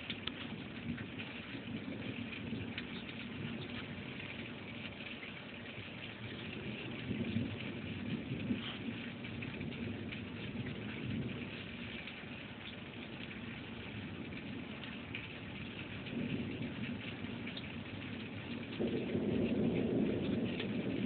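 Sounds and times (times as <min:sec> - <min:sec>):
rain falling steadily: 0:00.0 - 0:21.0
thunder rumbling: 0:00.0 - 0:21.0.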